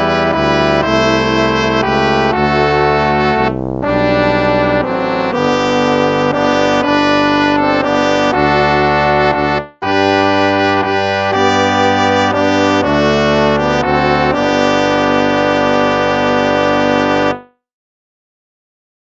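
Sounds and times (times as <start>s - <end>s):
instrumental hymn music: 0.0s - 17.6s.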